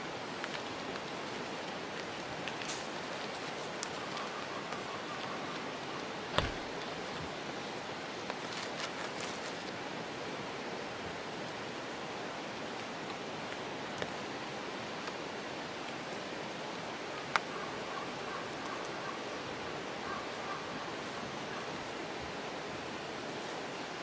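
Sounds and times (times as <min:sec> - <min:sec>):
steady rushing outdoor noise: 0:00.0 - 0:24.0.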